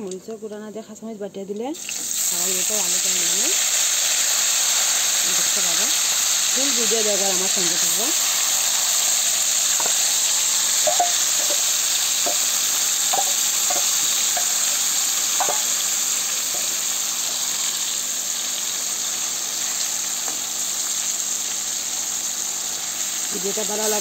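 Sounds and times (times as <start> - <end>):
fish sizzling in hot oil: 1.8 - 24.0.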